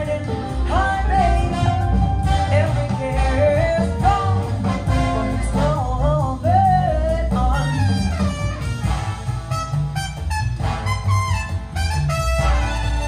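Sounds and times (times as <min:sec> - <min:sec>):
beating bass line: 0:00.0 - 0:13.0
guitar: 0:00.0 - 0:13.0.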